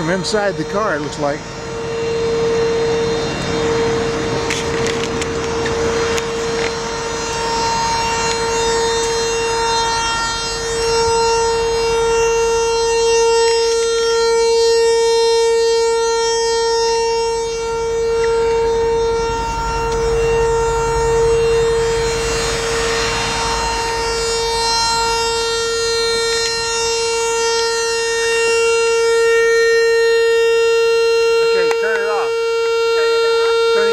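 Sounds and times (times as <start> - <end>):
steady high-pitched whine: 0.0 - 33.9.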